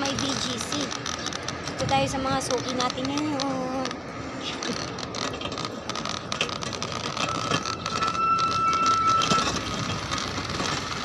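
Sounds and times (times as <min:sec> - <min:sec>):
bus and traffic rumble: 0:00.0 - 0:11.0.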